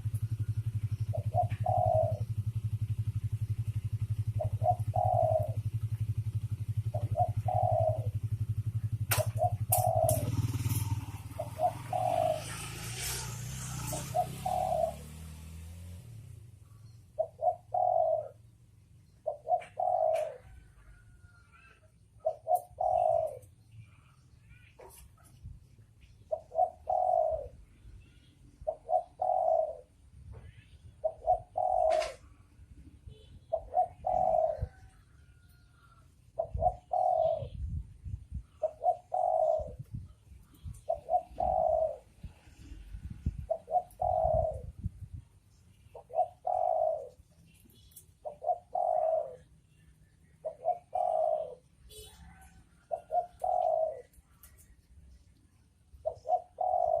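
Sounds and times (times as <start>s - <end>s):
dove cooing: 0.0s - 57.0s
small birds chirping: 0.0s - 57.0s.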